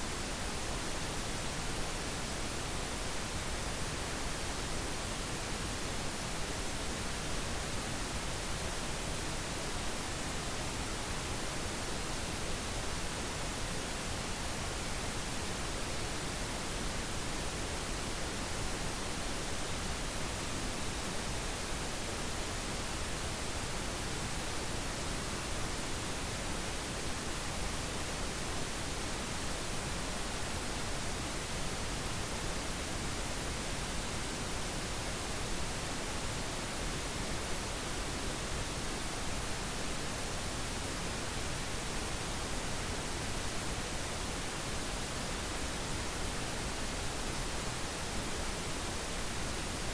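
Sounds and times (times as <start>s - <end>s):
pink noise hiss: 0.0s - 49.9s.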